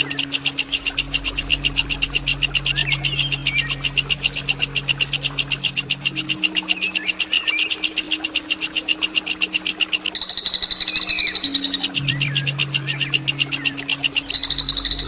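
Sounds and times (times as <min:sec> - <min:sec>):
songbird trilling: 0:00.0 - 0:15.0.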